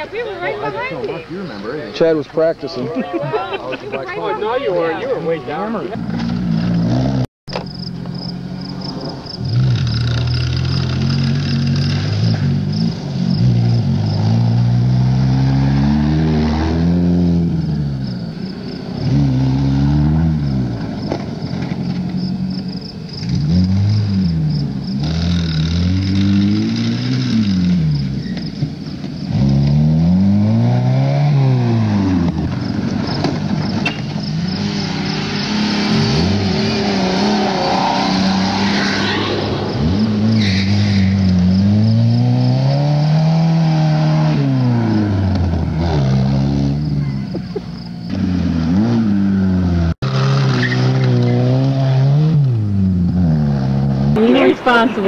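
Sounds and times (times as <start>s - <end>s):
car engine revving: 5.5s - 55.0s.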